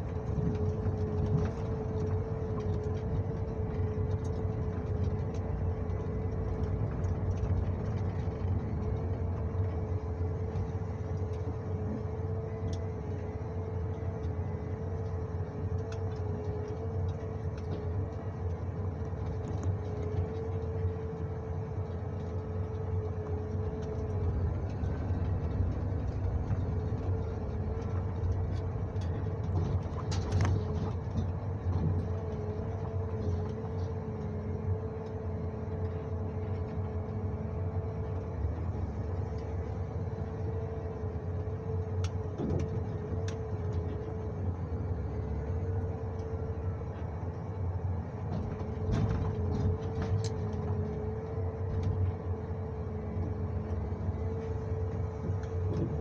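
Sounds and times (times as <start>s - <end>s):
diesel engine and hydraulics whining: 0.0s - 56.0s.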